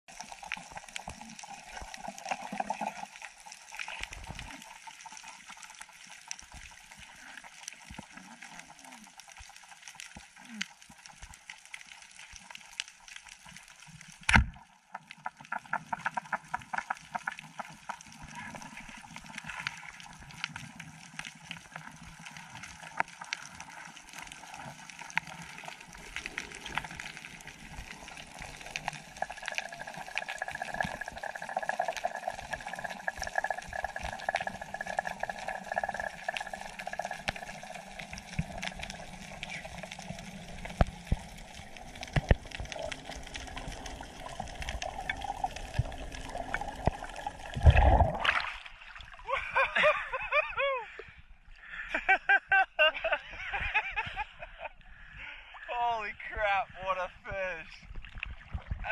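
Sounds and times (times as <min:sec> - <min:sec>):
underwater hiss and crackle: 0:00.1 - 0:58.9.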